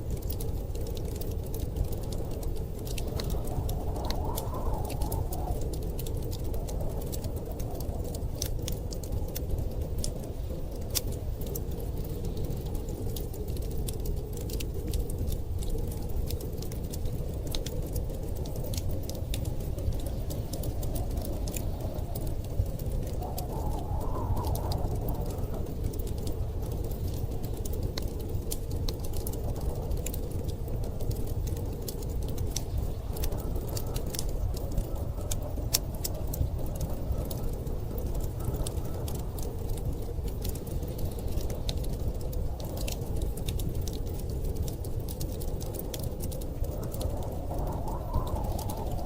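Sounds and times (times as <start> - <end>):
storm wind rumbling: 0.0 - 49.0
wood fire crackling: 0.0 - 49.0.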